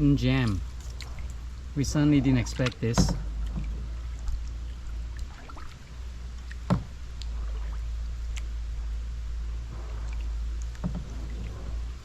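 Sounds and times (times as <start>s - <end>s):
boat engine rumble: 0.0s - 12.0s
faint splashes: 0.0s - 12.0s.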